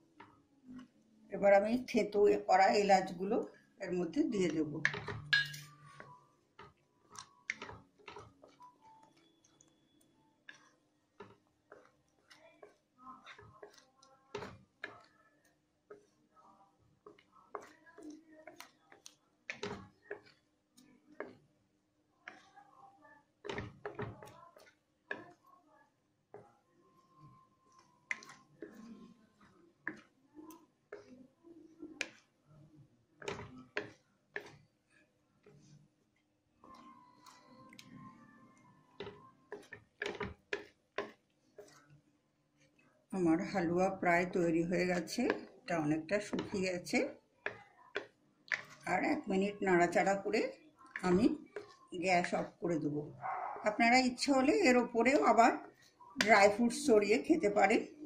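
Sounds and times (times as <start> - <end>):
spatula scraping and tapping pan: 1.6 - 21.6, 22.2 - 25.5, 26.3 - 52.8, 53.8 - 57.9.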